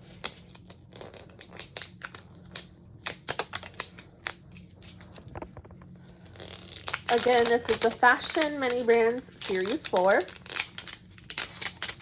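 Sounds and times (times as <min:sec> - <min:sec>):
paper wrapper crackling: 0:00.6 - 0:12.0.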